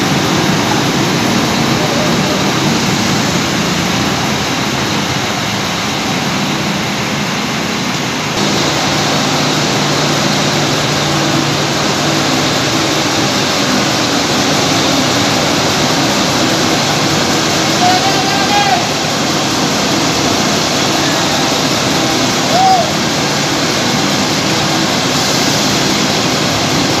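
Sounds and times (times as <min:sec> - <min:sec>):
diesel coach engines idling: 0:00.0 - 0:27.0.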